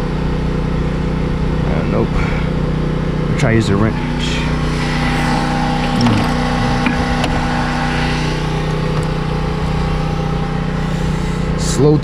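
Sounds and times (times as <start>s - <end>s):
machine droning: 0.0s - 12.0s.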